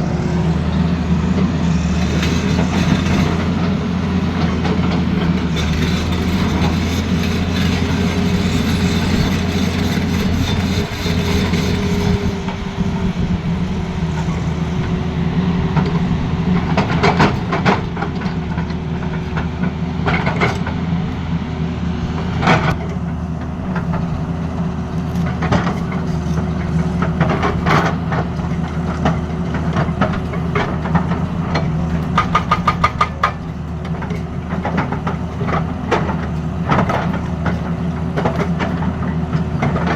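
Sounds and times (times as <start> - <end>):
excavator diesel engine whining: 0.0 - 39.9.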